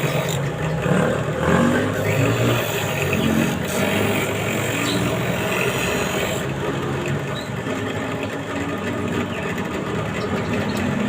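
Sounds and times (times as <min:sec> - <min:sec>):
power tool motor running: 0:00.0 - 0:11.0.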